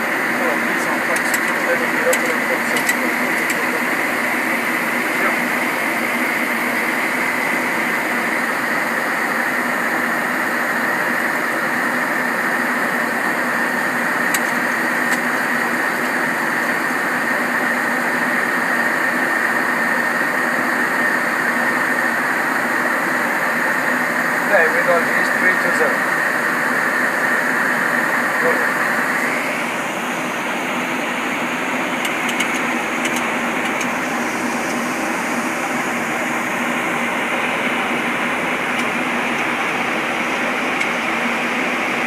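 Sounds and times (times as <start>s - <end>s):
aircraft engine drone: 0.0s - 42.0s
steady high whine: 0.0s - 42.0s.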